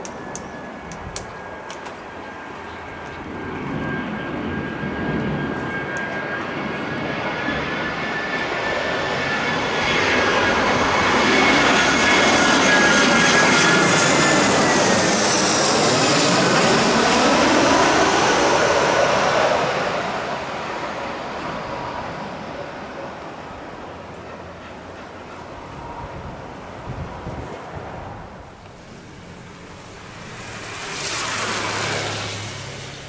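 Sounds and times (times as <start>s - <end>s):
high engine whine: 0.0s - 33.0s
jet airliner passing: 0.0s - 33.0s.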